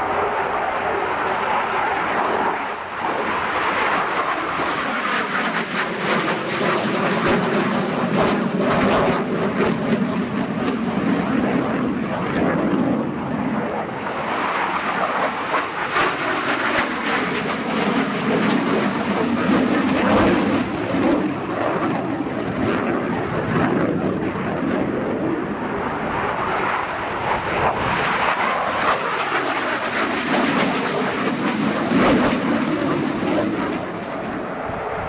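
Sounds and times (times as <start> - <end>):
jet engine roar: 0.0 - 35.0.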